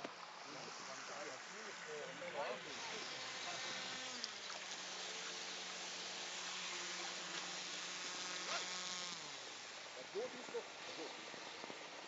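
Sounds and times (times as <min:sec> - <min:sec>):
model motorboat motor buzzing: 0:00.4 - 0:12.0.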